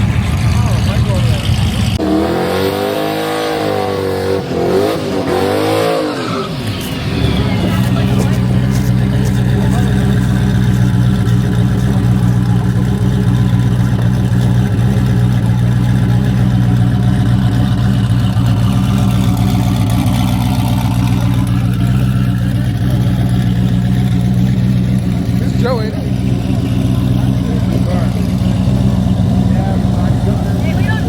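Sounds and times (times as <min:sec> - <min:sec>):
car engine idling: 0:00.0 - 0:03.0, 0:03.8 - 0:31.0.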